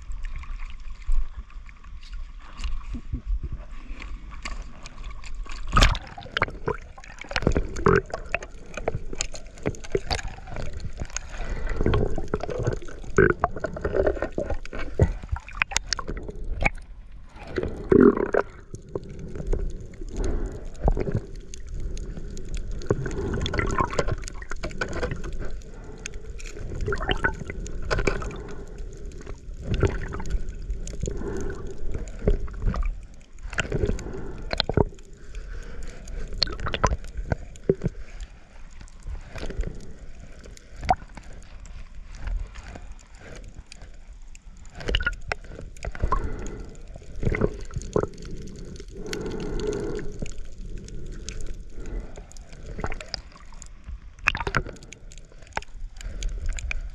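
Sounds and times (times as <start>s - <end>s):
water gurgling and sloshing: 0.0s - 56.9s.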